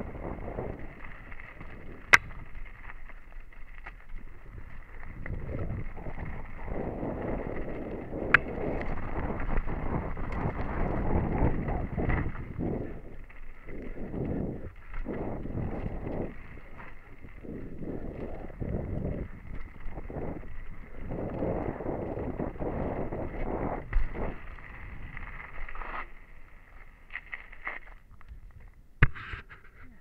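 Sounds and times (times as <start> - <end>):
bike rattling: 0.0 - 30.0
bike tyres rolling over dirt: 0.0 - 30.0.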